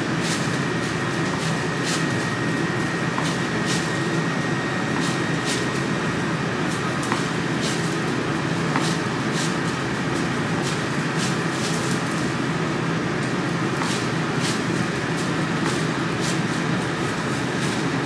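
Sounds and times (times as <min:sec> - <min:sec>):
mechanical hum with high whine: 0:00.0 - 0:18.0.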